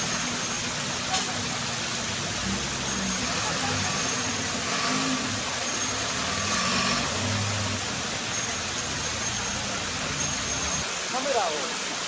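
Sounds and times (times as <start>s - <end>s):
flowing water rushing: 0.0s - 12.0s
engine running at low revs: 0.7s - 10.8s.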